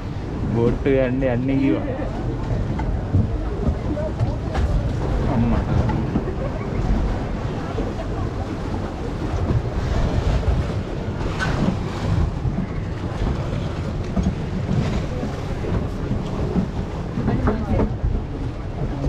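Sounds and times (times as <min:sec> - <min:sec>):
boat motor running: 0:00.0 - 0:19.0
water churning: 0:00.0 - 0:19.0
wind buffeting microphone: 0:00.0 - 0:19.0.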